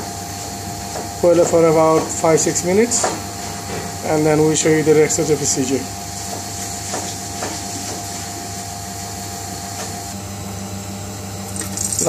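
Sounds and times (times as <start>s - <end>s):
kitchen machine hum and hiss: 0.0s - 12.0s.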